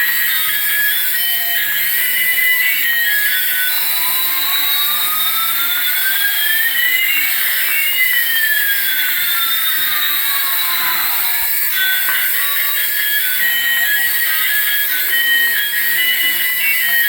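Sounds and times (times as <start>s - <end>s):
toy jet engine sound effect: 0.0s - 17.0s.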